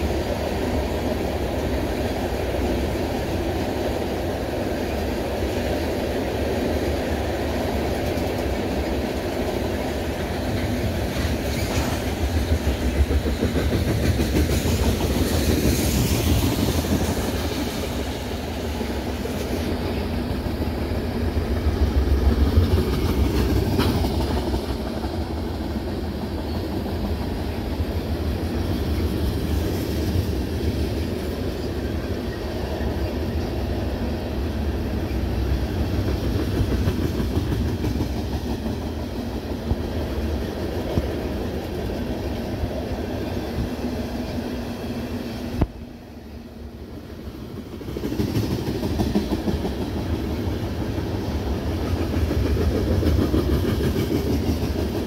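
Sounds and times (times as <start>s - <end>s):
clickety-clack of train wheels: 0.0s - 55.0s
freight train rumbling past: 0.0s - 55.0s.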